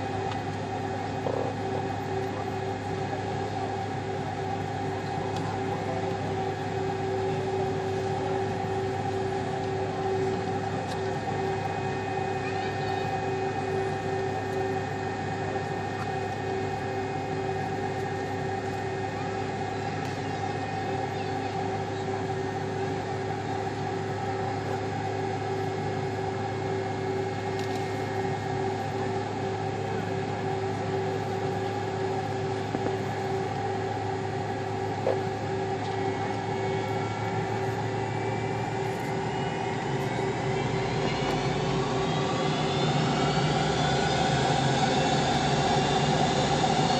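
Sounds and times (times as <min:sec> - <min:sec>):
airliner cabin engine drone: 0:00.0 - 0:46.9.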